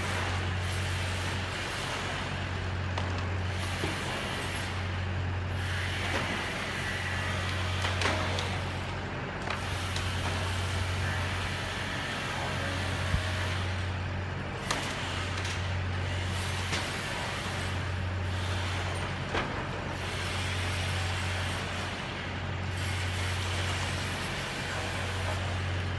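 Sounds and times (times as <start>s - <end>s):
heavy machine engine droning: 0.0s - 25.9s.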